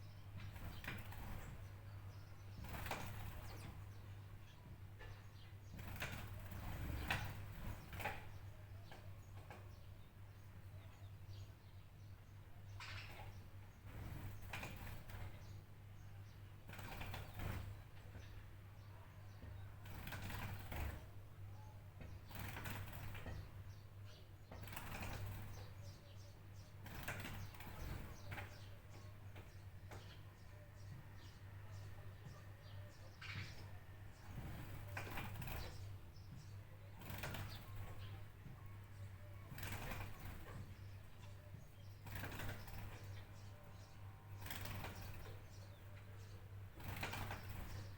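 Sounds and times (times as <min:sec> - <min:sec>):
birds chirping: 0:00.0 - 0:47.9
faint low hum: 0:00.0 - 0:47.9.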